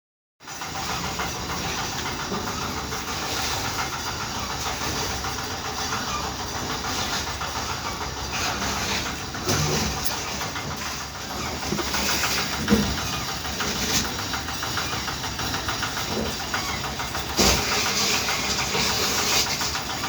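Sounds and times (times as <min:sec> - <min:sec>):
truck engine running: 0:00.4 - 0:20.0.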